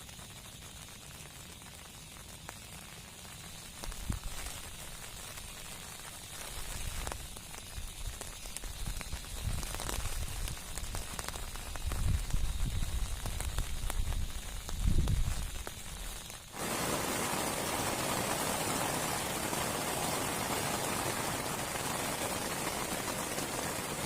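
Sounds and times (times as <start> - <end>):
heavy rain hissing: 0.0 - 24.0
sharp rain drop ticks: 0.0 - 24.0.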